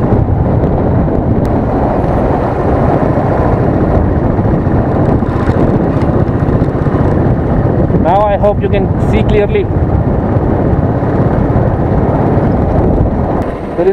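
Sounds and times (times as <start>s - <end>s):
motorcycle engine running: 0.0s - 13.9s
wind rumbling on microphone: 0.0s - 13.9s.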